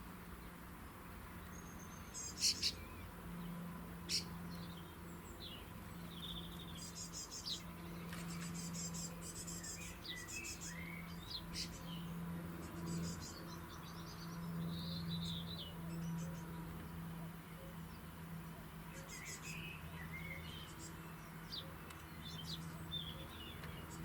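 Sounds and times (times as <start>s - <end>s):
low steady hum: 0.0s - 24.0s
small birds chirping: 0.0s - 24.0s.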